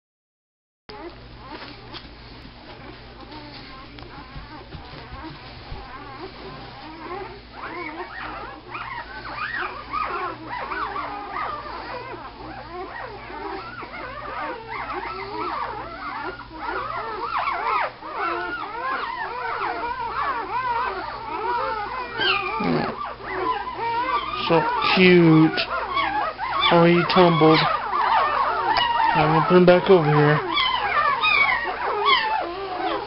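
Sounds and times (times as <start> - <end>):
puppies whimpering: 0.9 - 33.0.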